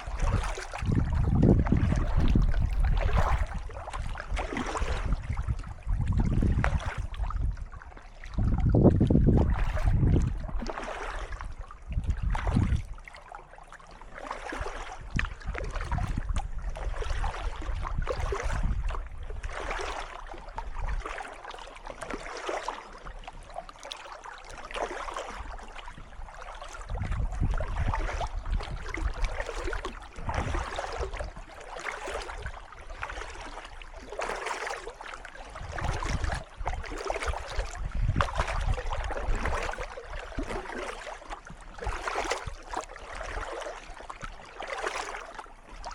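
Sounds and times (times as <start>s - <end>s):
paddle strokes splashing water: 0.0s - 45.9s.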